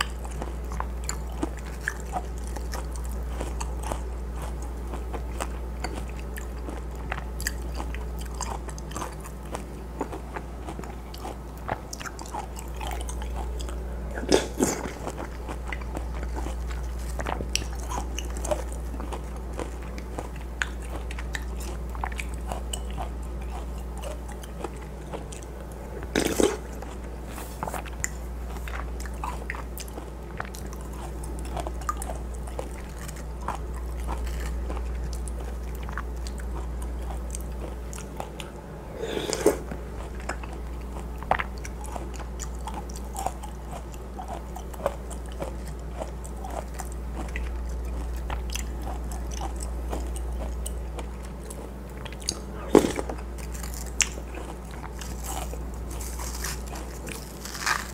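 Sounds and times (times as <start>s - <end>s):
person chewing with wet mouth clicks: 0.0s - 53.3s
steady low hum: 0.0s - 57.9s.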